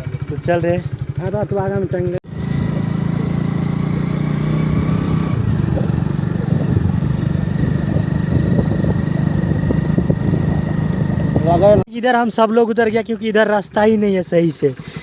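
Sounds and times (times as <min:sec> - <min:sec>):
motorcycle engine running: 0:00.0 - 0:11.9, 0:12.8 - 0:15.0.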